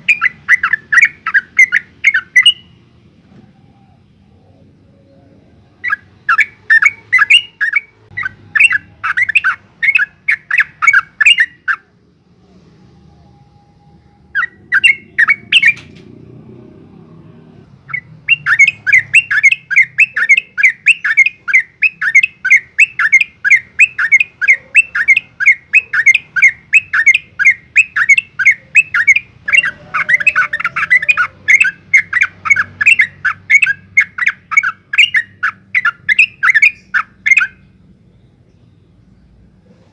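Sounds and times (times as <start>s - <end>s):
bird singing rapid repeated notes: 0.0s - 3.1s, 5.5s - 12.0s, 14.2s - 16.0s, 17.7s - 39.5s.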